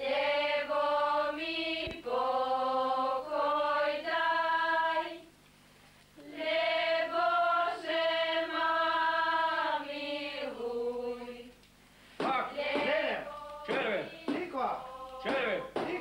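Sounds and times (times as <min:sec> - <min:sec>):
women singing folk song: 0:00.0 - 0:05.3, 0:06.2 - 0:11.6, 0:12.3 - 0:16.0.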